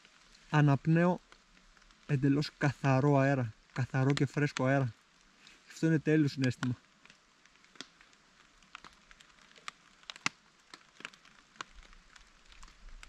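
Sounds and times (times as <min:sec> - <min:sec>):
faint hiss: 0:00.0 - 0:13.0
raindrops tapping on a tarp: 0:00.0 - 0:13.0.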